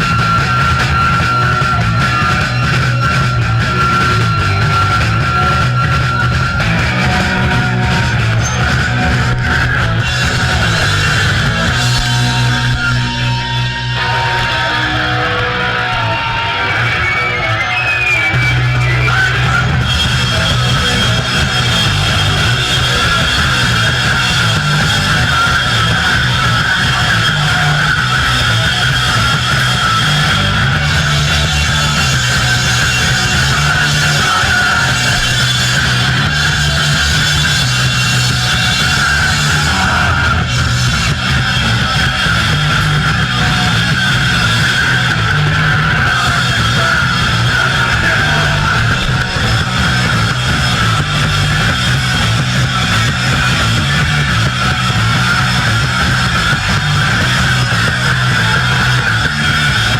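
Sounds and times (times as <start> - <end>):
distorted electric guitar: 0.0 - 59.9
punk band playing live: 0.0 - 59.9.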